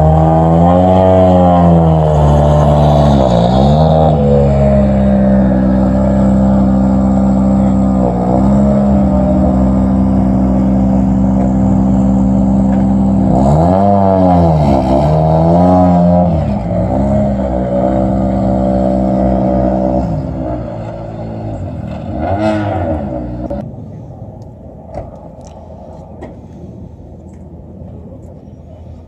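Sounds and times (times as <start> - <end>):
race car engine idling with revs: 0.0 - 24.0.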